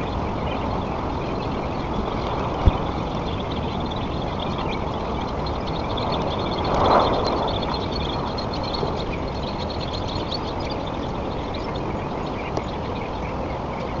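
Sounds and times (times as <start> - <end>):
faint high chirping: 0.0 - 14.0
wind buffeting microphone: 0.0 - 14.0.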